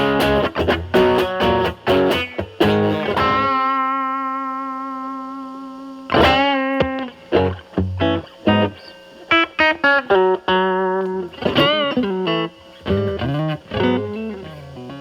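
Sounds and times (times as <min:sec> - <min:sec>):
distorted electric guitar notes: 0:00.0 - 0:15.0.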